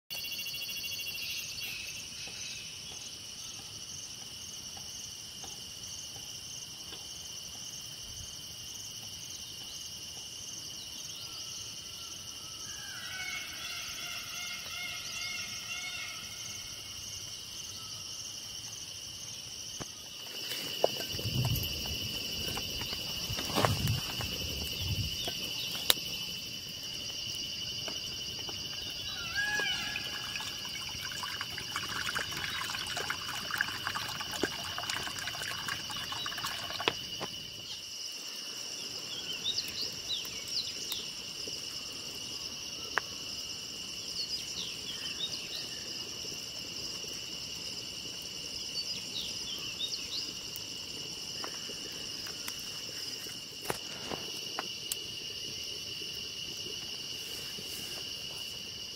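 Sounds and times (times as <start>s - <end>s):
insect chorus: 0.1s - 58.9s.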